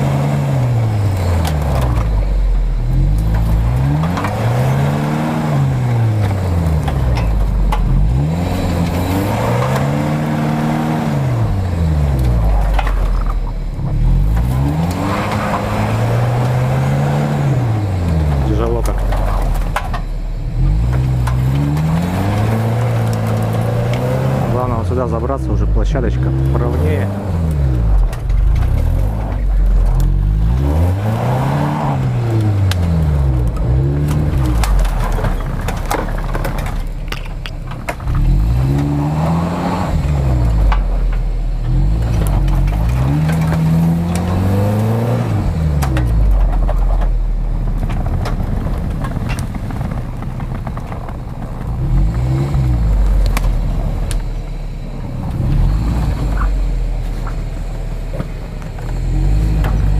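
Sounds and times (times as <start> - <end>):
suv engine revving: 0.0 - 59.9.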